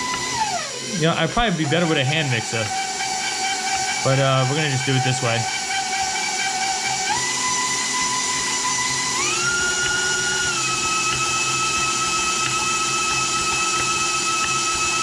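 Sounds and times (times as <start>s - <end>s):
stand mixer motor whine: 0.0s - 15.0s.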